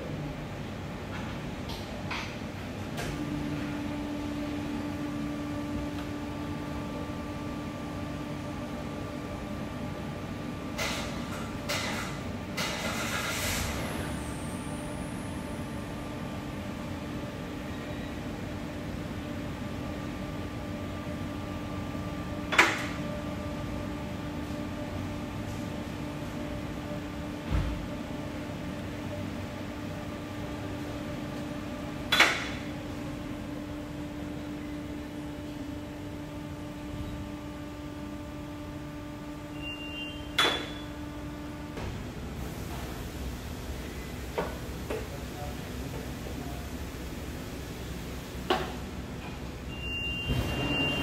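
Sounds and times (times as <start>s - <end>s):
workshop hum: 0.0s - 51.0s.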